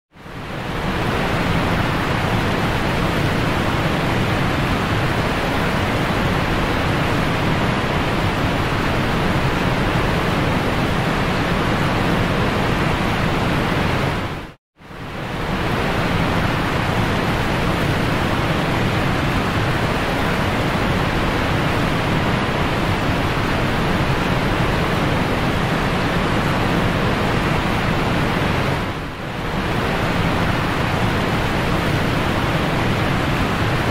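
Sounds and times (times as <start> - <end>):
aquarium water rushing: 0.3 - 33.9.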